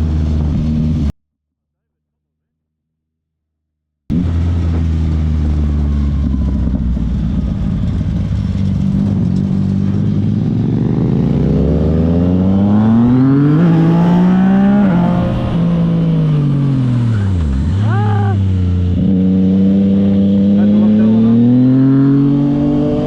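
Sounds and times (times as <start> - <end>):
motorcycle engine revving: 4.1 - 23.0.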